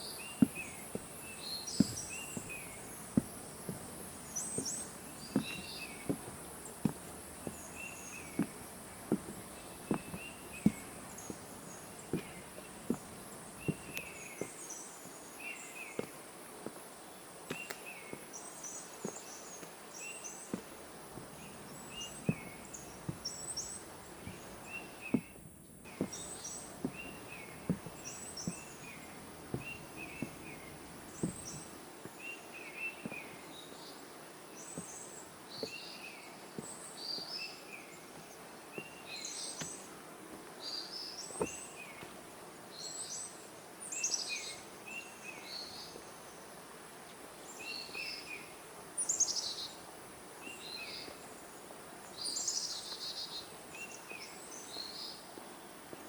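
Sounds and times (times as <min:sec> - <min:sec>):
soft footsteps on path: 0:00.0 - 0:43.1, 0:45.4 - 0:56.0
faint steady high hiss: 0:00.0 - 0:56.0
forest birds chirping: 0:00.0 - 0:56.0.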